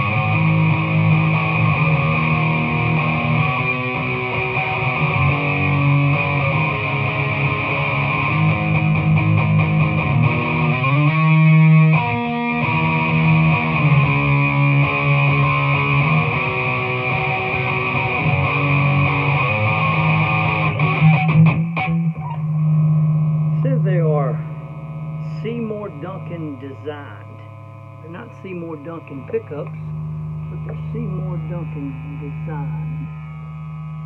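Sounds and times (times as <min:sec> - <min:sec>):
electric guitar notes and chords: 0:00.0 - 0:34.0.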